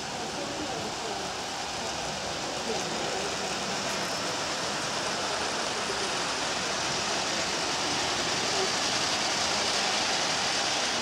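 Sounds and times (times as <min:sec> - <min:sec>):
model train wheels rolling on rail: 0:00.0 - 0:11.0.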